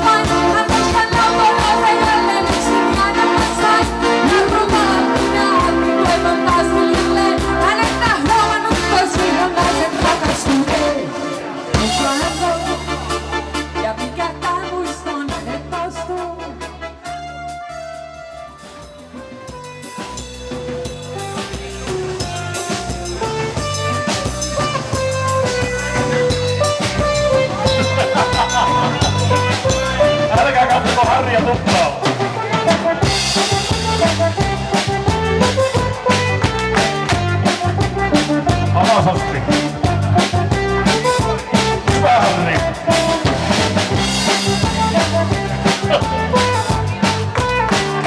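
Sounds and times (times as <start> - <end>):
upbeat pop music: 0.0 - 18.4, 20.7 - 48.0
drum kit beat: 0.0 - 48.0
live rock band playing: 0.0 - 48.0.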